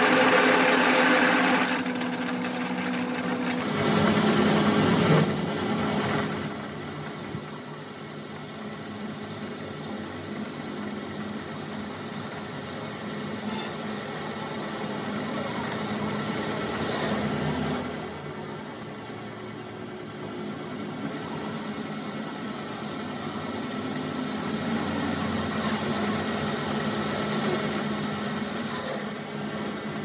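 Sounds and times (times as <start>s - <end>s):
high-pitched mechanical squeal: 0.0s - 3.7s, 4.9s - 30.0s.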